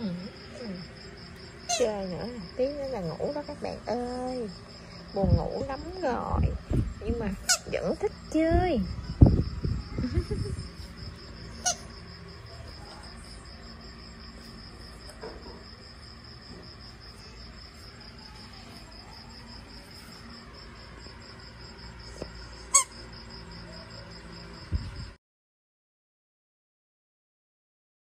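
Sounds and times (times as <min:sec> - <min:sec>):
crickets chirping: 0:00.0 - 0:25.2.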